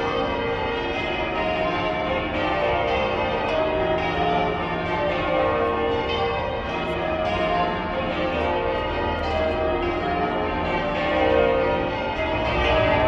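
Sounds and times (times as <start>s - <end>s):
church bells pealing: 0.0s - 13.0s.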